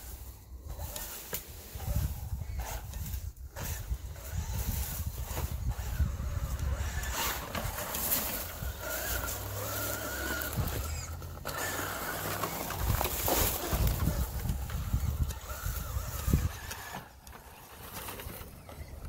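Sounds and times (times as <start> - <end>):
electric motor whining: 0.1 - 19.0.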